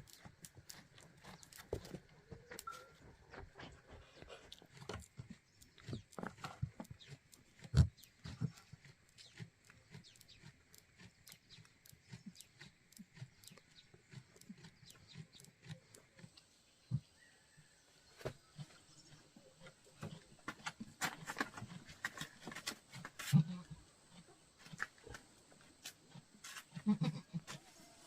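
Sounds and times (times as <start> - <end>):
low farm animal calls: 0.1 - 25.2, 26.1 - 28.0.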